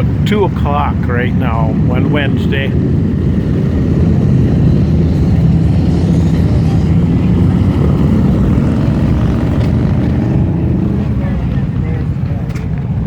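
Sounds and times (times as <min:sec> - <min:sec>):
motorcycle engines in traffic: 0:00.0 - 0:13.0.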